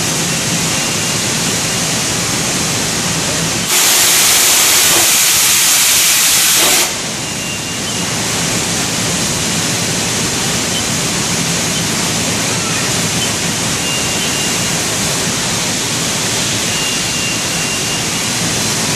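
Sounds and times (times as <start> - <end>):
loud bright hiss: 0.0 - 18.9.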